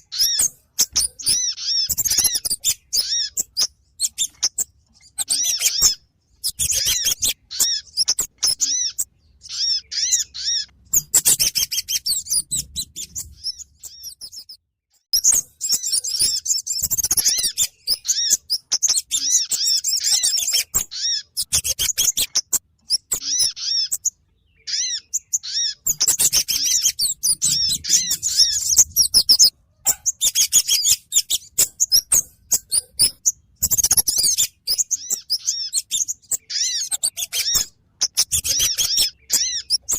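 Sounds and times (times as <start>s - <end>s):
high bird chirps and trills: 0.0s - 39.9s.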